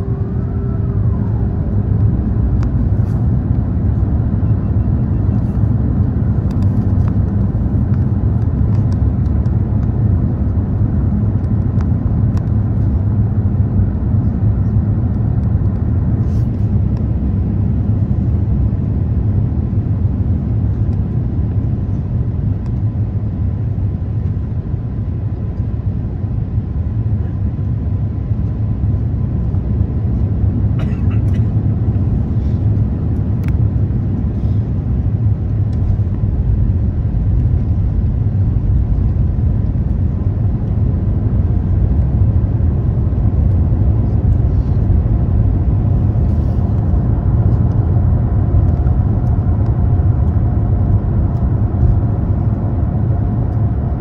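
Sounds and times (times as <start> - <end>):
jet cabin engine and airflow roar: 0.0 - 54.0.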